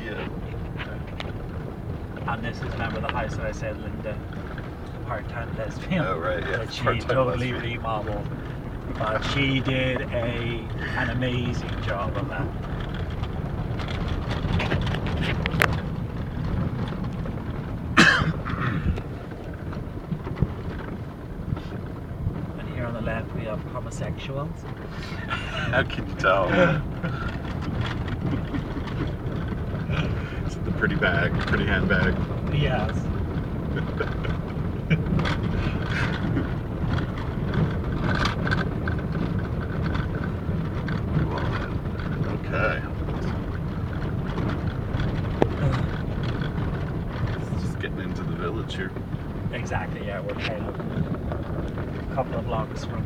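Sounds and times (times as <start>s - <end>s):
road and engine rumble: 0.0s - 53.0s.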